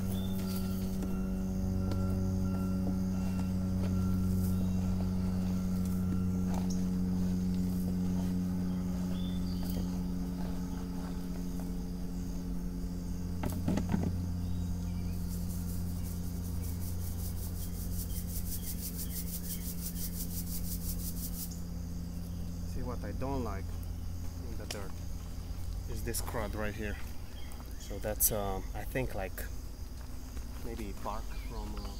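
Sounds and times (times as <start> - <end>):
insect calling in rapid pulses: 0.0 - 31.9
steady low hum: 0.0 - 31.9.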